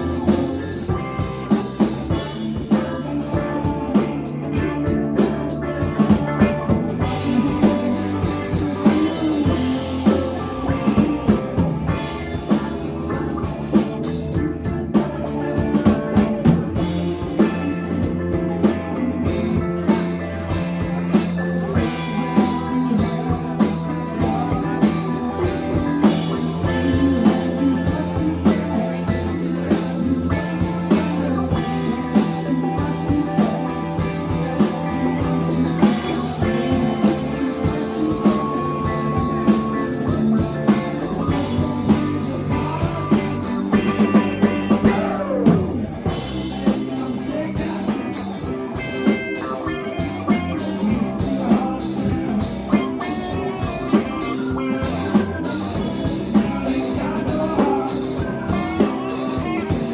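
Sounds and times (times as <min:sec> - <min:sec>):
drum kit steady beat: 0:00.0 - 0:59.9
electric guitar: 0:00.0 - 0:59.9.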